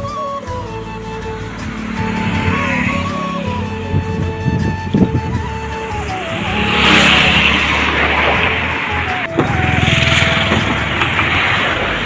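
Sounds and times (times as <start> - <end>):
slow melodic background music: 0.0 - 11.7
car passing close by: 1.1 - 12.0.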